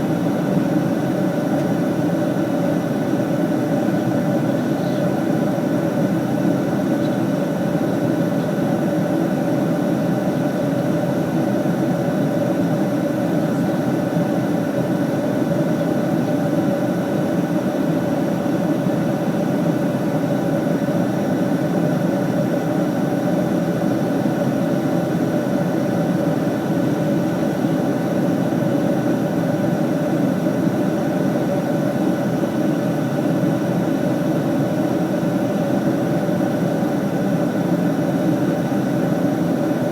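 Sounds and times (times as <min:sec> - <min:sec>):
airliner engine drone: 0:00.0 - 0:39.9
constant cabin hum: 0:00.0 - 0:39.9.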